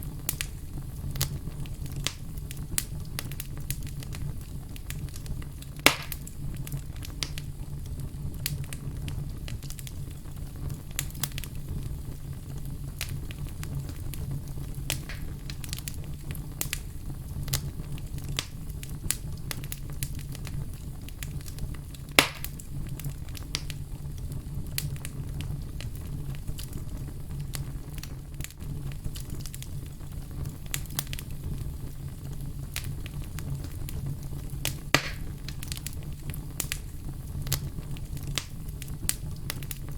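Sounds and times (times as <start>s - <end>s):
fire crackling: 0.0s - 39.9s
loud fire pops: 0.0s - 39.9s.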